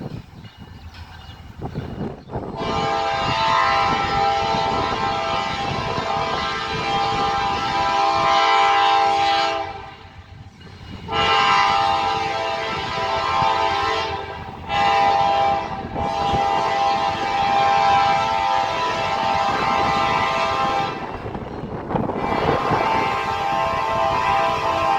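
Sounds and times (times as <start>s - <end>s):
train rumbling: 0.0s - 24.9s
locomotive air horn: 2.5s - 10.1s, 11.1s - 24.9s.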